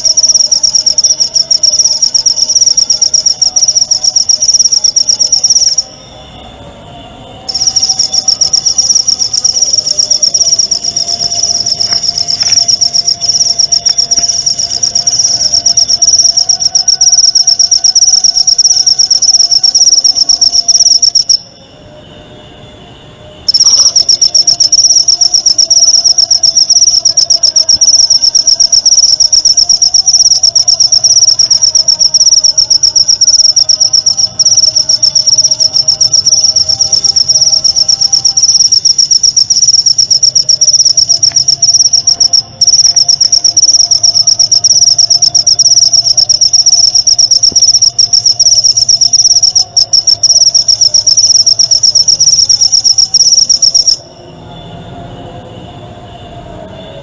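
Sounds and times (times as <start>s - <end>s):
insect trilling: 0.0s - 6.0s, 7.5s - 21.5s, 23.5s - 54.0s.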